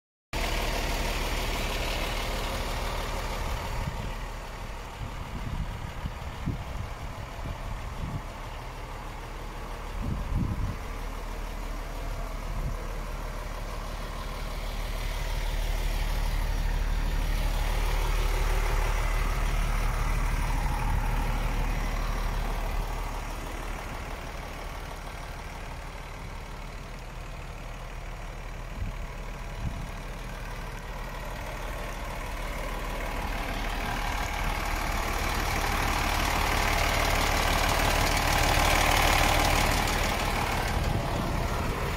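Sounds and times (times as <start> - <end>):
diesel truck engine idling: 0.3 - 41.9.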